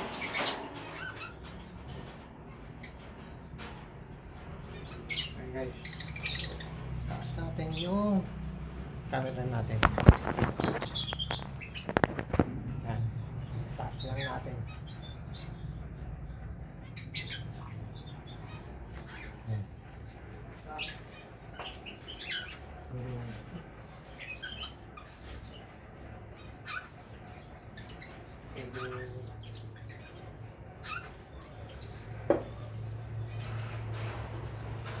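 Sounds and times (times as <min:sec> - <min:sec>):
caged birds chirping: 0:00.0 - 0:35.0
steady low hum: 0:00.0 - 0:35.0.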